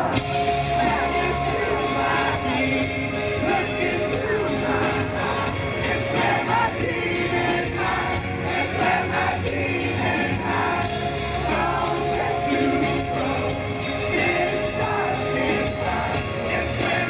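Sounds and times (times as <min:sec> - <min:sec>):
live rock band playing: 0:00.0 - 0:17.0
man singing into a microphone: 0:00.0 - 0:17.0.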